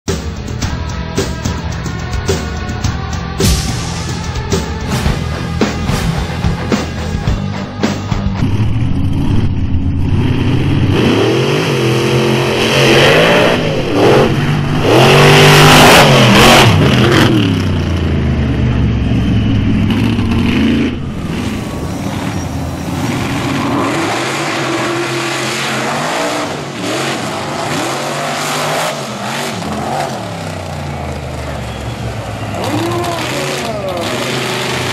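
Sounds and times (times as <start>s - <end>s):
truck engines revving: 0.1s - 34.9s.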